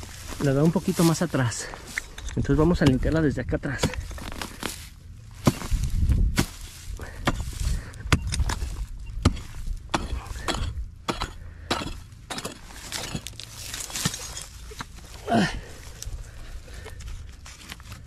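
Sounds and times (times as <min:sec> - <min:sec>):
digging tool scraping soil: 0:00.0 - 0:15.3.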